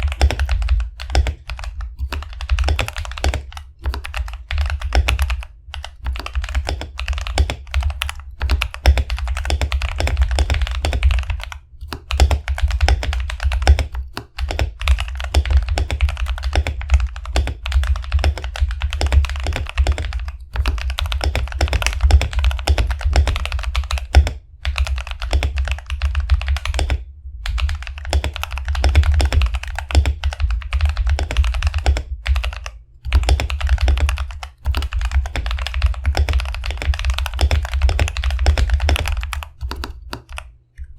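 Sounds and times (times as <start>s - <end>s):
mechanical keyboard typing: 0.0s - 40.5s.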